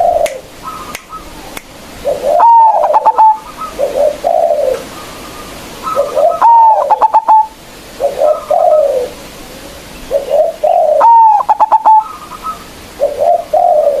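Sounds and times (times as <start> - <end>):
dove cooing song: 0.0 - 14.0.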